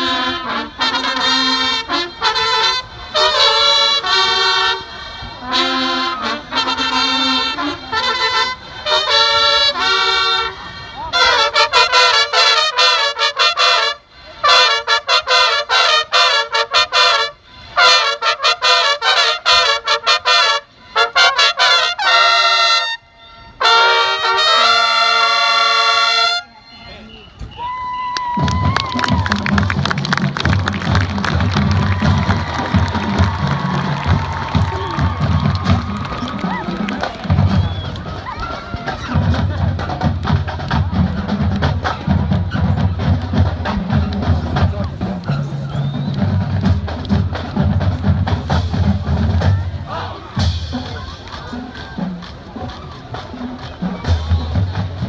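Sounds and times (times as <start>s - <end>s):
marching band trumpets: 0.0s - 55.0s.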